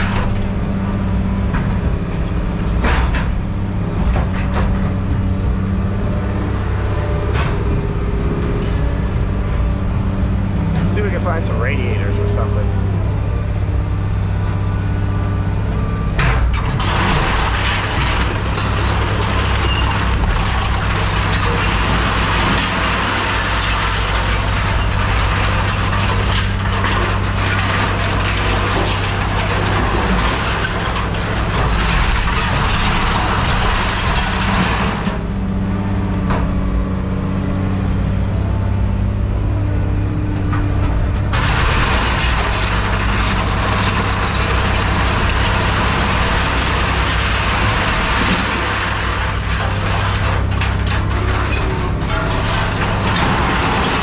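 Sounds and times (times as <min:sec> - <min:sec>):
diesel machine droning: 0:00.0 - 0:54.0
scrap metal crunching: 0:00.0 - 0:54.0.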